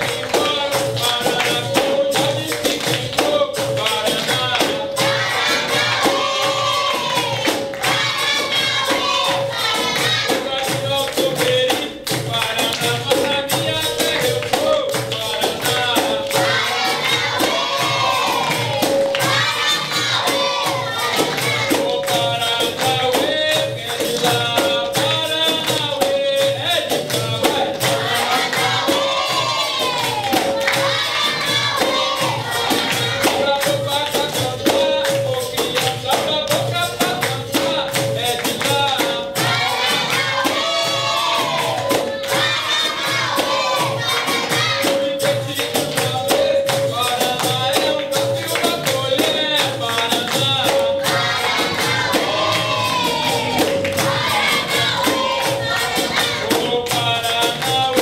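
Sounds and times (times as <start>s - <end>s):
even drumbeat: 0.0s - 58.0s
tambourine jingling rhythm: 0.0s - 58.0s
voices singing together: 0.0s - 58.0s.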